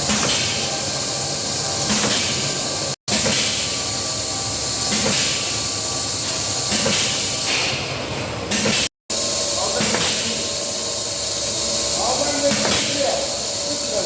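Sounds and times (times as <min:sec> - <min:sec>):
cheese forming machine hissing: 0:00.0 - 0:14.0.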